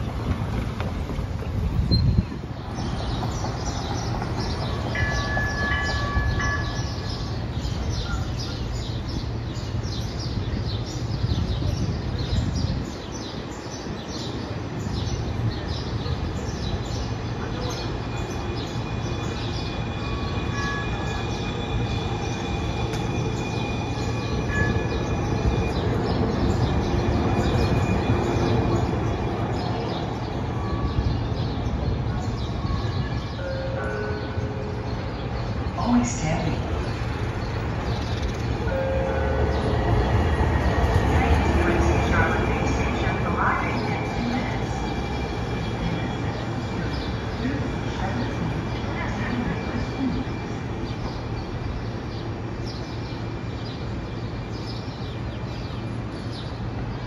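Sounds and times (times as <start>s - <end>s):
city traffic noise: 0.0s - 57.0s
streetcar passing on tracks: 0.0s - 57.0s.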